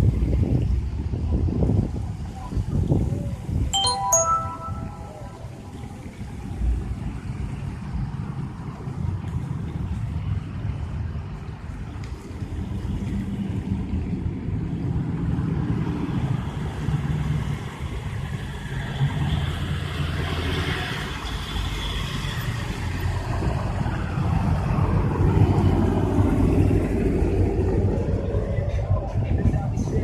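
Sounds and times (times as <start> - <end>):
road noise: 5.4 - 30.0.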